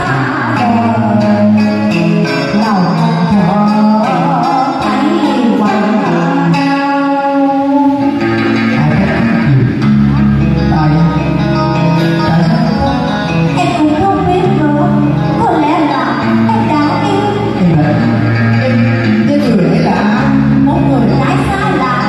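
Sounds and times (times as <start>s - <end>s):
guitar backing music: 0.0s - 22.0s
steady bass line: 0.0s - 22.0s.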